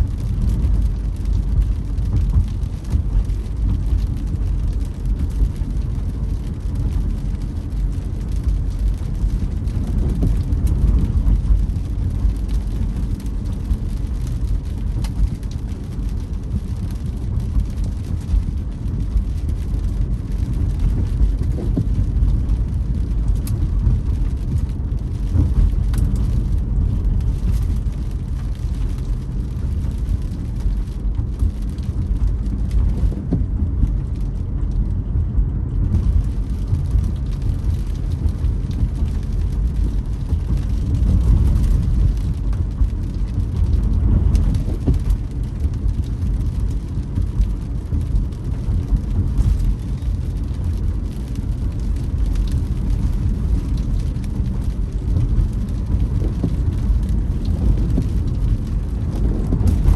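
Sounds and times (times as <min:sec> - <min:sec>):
rain on car: 0:00.0 - 0:59.9
road and engine rumble: 0:00.0 - 0:59.9.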